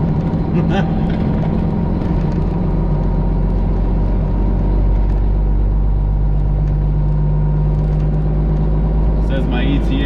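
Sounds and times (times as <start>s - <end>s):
truck diesel engine rumbling: 0.0s - 10.0s.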